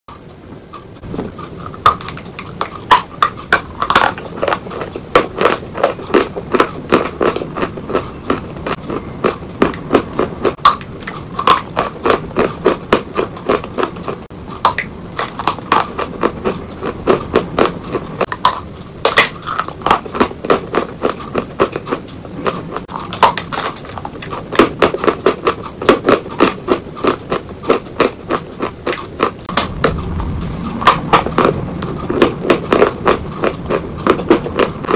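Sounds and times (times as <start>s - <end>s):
person chewing chalk crunching: 1.1s - 34.9s.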